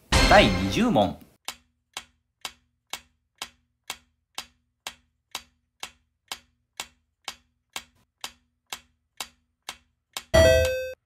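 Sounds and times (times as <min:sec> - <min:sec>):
clock-like timer ticks: 0:01.4 - 0:11.0.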